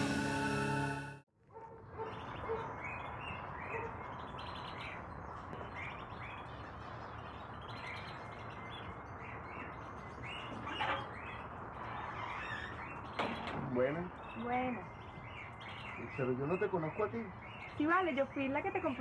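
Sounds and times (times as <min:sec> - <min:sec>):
small birds chirping: 0:01.5 - 0:19.0.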